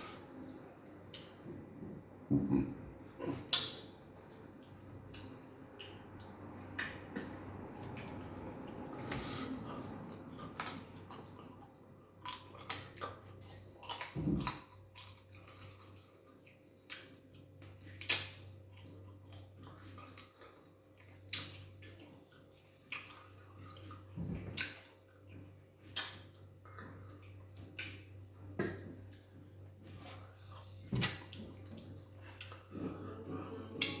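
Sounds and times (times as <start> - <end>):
wet chewing and smacking: 3.3 - 34.0.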